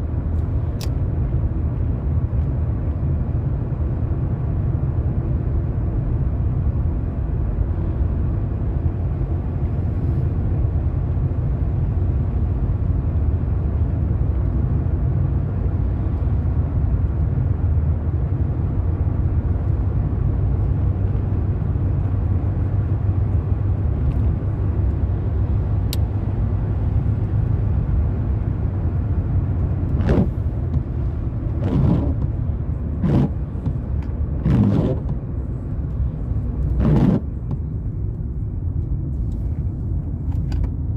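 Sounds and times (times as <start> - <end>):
car driving on wet road: 0.0 - 40.9.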